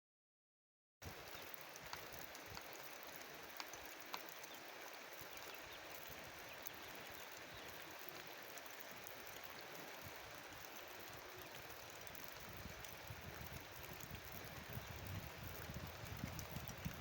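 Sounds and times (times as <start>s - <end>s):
raindrops ticking: 1.0s - 17.0s
steady rain hiss: 1.0s - 17.0s.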